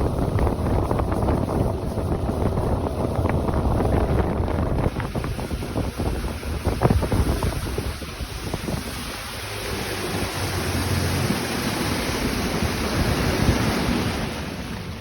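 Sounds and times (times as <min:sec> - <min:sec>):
water around a boat: 0:00.0 - 0:15.0
wind rushing over microphone: 0:00.0 - 0:15.0.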